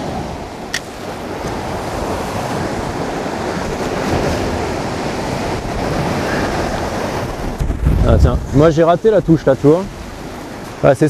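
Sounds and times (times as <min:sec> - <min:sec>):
sea surf breaking on rocks: 0:00.0 - 0:11.0
wind on microphone: 0:00.0 - 0:11.0.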